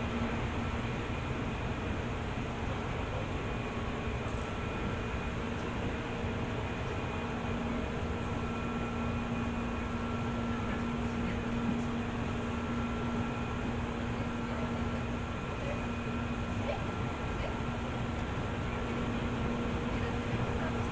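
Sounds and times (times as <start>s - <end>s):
train wheels rumbling on rail: 0.0s - 20.9s.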